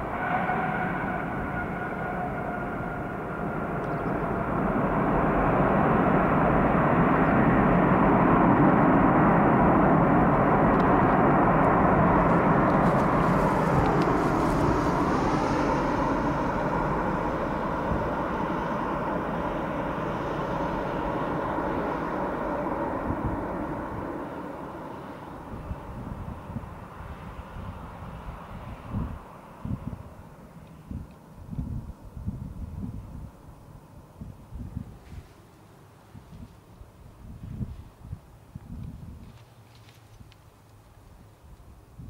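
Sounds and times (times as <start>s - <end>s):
jet engines roaring: 0.0s - 34.2s.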